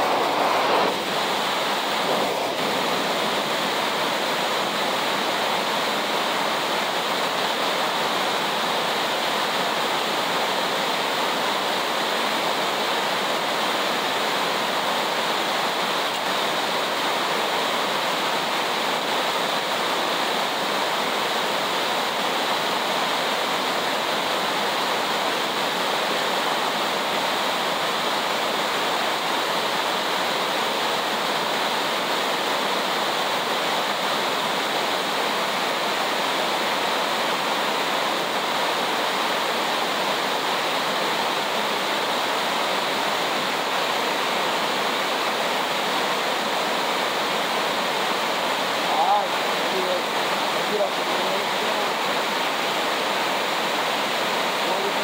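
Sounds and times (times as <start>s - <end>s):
water rushing over weir: 0.0s - 55.0s.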